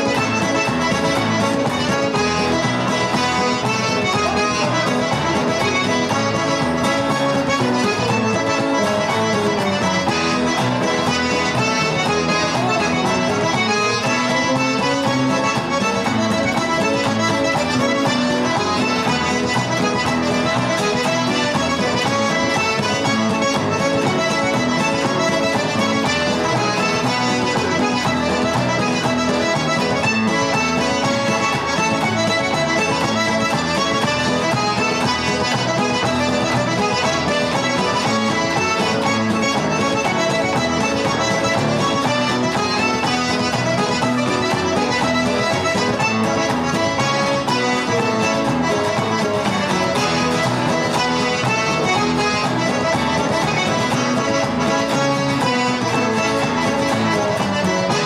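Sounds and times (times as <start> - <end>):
button accordion playing dance tune: 0.0 - 58.0.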